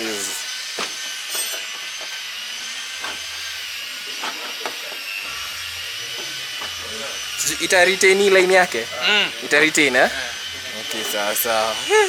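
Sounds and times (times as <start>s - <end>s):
power tool whining: 0.0s - 12.0s.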